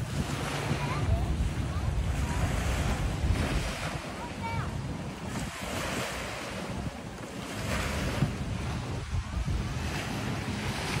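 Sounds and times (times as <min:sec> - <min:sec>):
small waves washing onto shore: 0:00.0 - 0:11.0
wind buffeting microphone: 0:00.0 - 0:11.0.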